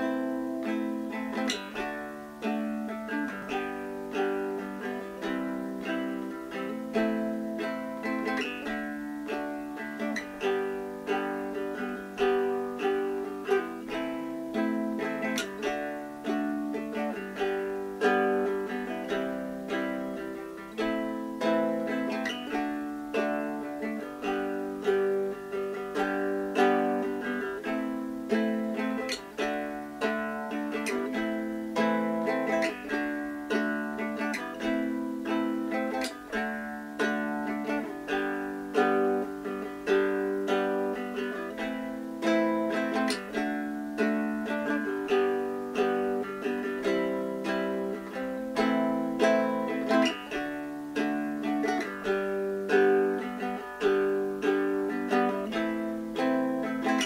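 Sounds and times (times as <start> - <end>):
ukulele plucked notes and chords: 0.0 - 57.0.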